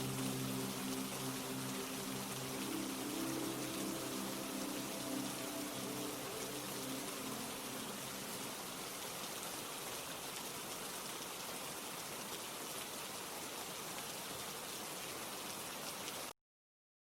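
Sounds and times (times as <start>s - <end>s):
steady rainfall: 0.0s - 16.4s.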